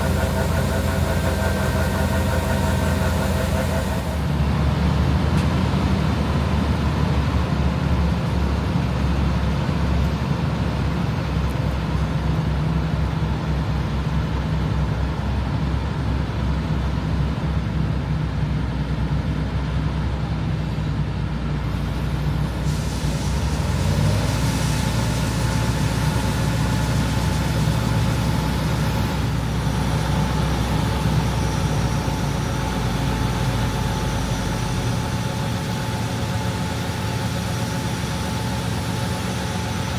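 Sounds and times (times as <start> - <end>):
combine engine and machinery running: 0.0 - 39.9.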